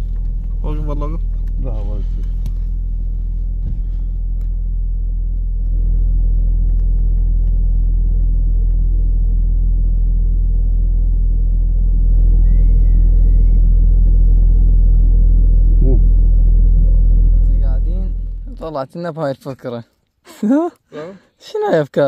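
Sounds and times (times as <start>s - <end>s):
low motor rumble: 0.0s - 20.1s.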